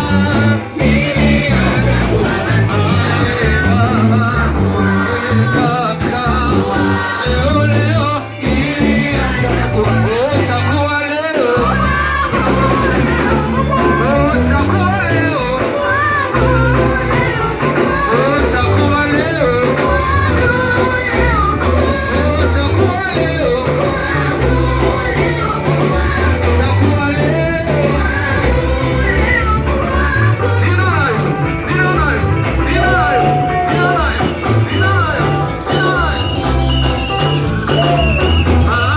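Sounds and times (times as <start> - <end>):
guitar: 0.0 - 38.9
heavy bass line: 0.0 - 38.9
live band playing: 0.0 - 38.9
person singing: 0.0 - 38.9.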